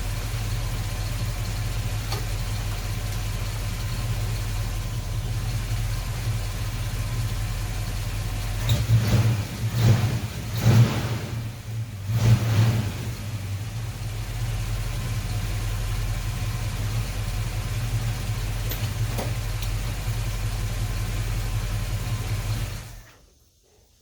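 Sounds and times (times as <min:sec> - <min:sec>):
car engine idling: 0:00.0 - 0:23.1.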